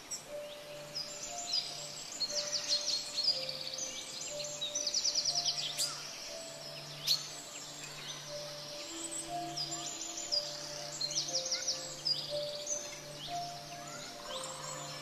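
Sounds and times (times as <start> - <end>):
birds chirping and trilling: 0.0 - 15.0
soft held music notes: 0.0 - 15.0
steady hiss: 0.0 - 15.0.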